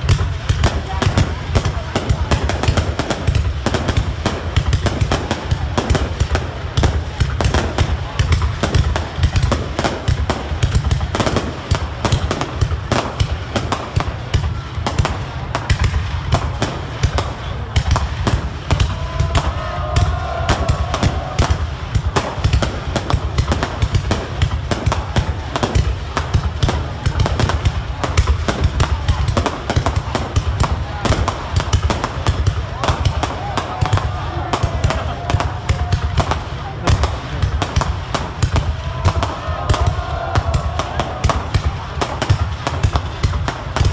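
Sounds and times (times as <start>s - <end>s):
deep fireworks booms: 0.0s - 43.9s
fireworks bangs and crackles: 0.0s - 43.9s.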